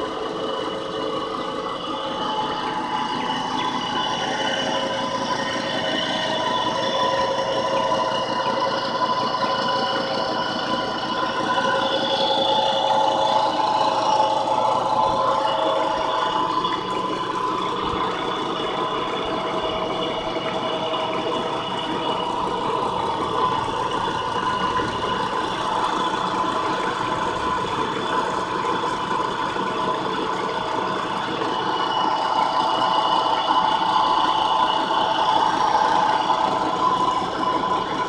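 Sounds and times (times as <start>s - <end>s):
motor hum with whine: 0.0s - 38.0s.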